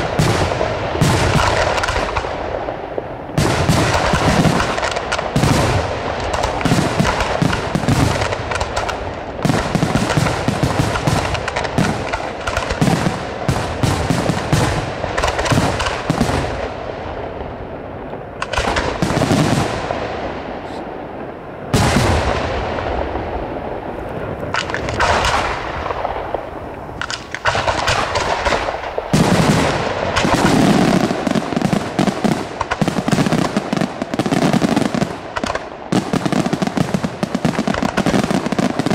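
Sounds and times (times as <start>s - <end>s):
fireworks crackling: 0.0s - 38.9s
fireworks launching and bursting: 0.0s - 38.9s.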